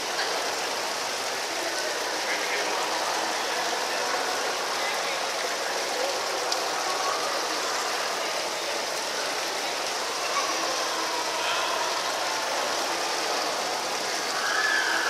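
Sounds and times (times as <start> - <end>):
fountain water splashing on stone: 0.0 - 15.0.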